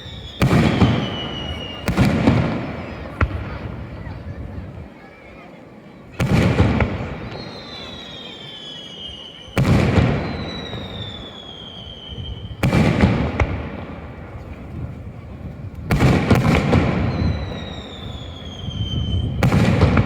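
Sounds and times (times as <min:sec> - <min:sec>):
fireworks booming: 0:00.0 - 0:04.9, 0:06.1 - 0:20.0.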